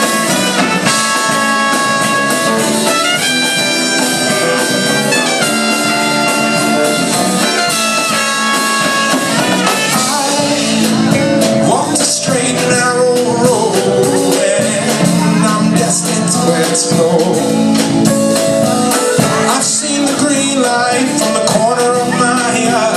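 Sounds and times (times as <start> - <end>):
live band playing: 0.0 - 22.9.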